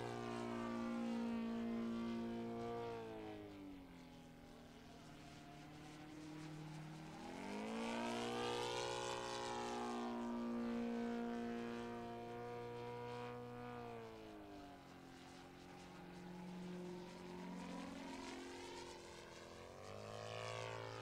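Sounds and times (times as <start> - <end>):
model airplane engine and propeller: 0.0 - 21.0.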